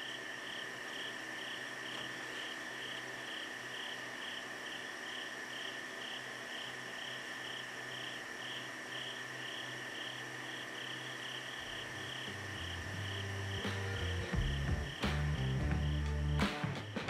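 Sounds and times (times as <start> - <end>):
insects trilling: 0.0 - 17.0
pulsing cricket chirps: 0.0 - 17.0.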